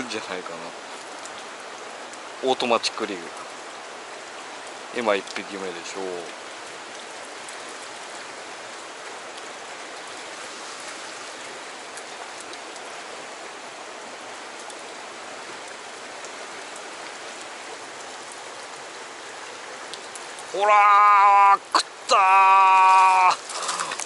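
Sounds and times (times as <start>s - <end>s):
stream rushing: 0.0s - 24.0s.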